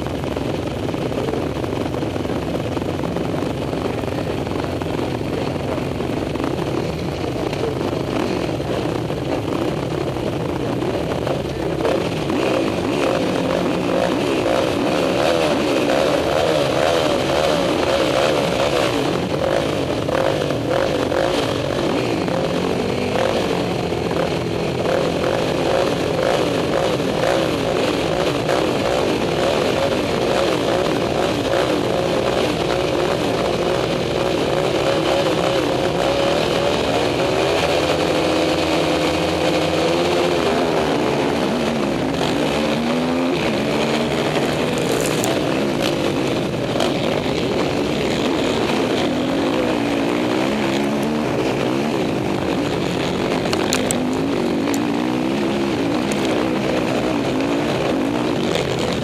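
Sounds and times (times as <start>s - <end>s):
quad bike engines revving: 0.0s - 59.0s.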